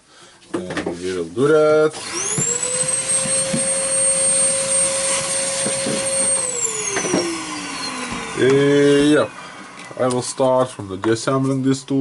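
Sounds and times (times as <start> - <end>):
power tool motor whining: 2.0 - 12.0.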